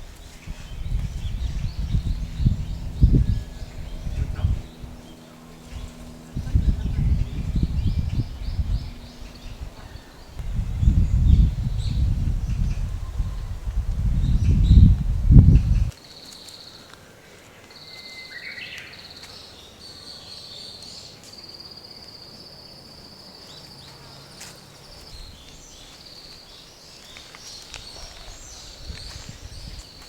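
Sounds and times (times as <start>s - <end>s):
insects trilling: 0.0s - 30.0s.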